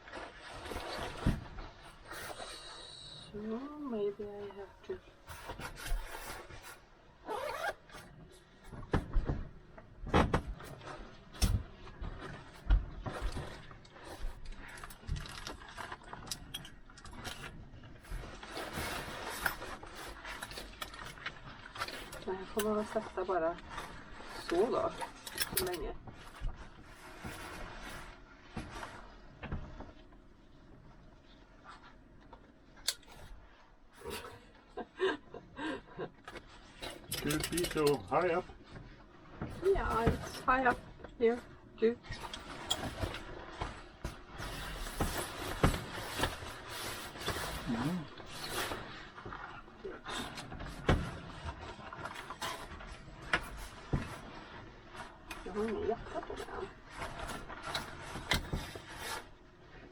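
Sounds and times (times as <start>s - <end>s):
clothing rustling: 0.0s - 59.9s.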